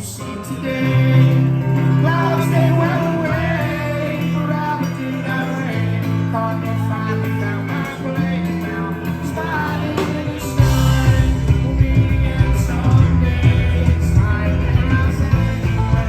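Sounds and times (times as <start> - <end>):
bass guitar: 0.0 - 16.0
drums: 0.0 - 16.0
electric guitar lines: 0.0 - 16.0.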